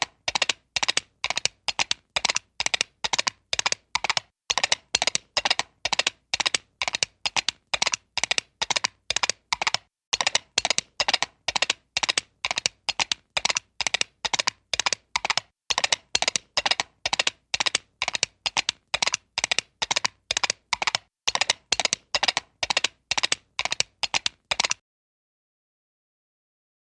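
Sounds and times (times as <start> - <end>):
comic horse hooves galloping: 0.0 - 24.8.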